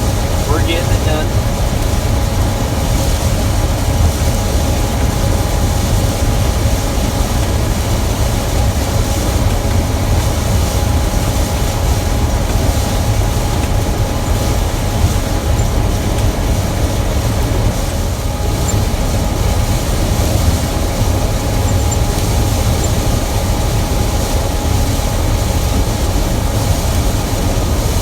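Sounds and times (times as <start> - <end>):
combine harvester drone: 0.0 - 28.0.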